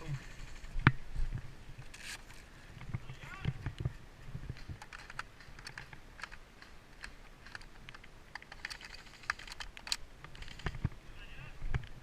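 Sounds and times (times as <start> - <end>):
light clicks and crackles: 0.1 - 11.0.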